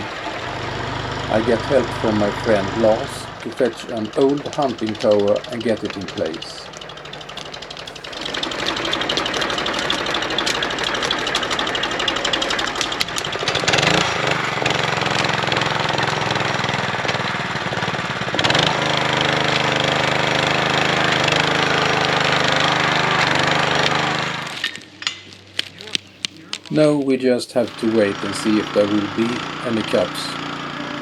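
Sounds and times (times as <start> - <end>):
engine running with rattling knock: 0.0 - 26.9, 27.6 - 31.0.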